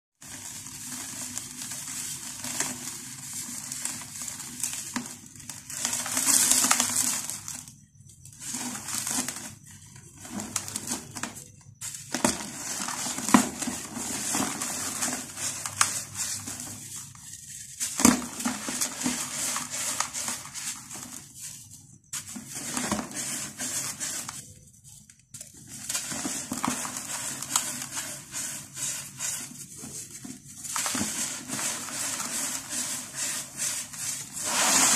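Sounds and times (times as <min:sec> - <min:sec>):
powder sifting into plastic basin: 0:00.2 - 0:34.9.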